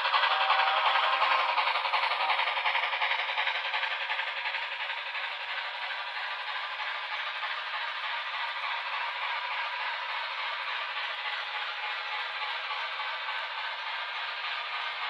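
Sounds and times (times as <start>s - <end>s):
model train rattling clatter: 0.0s - 15.0s.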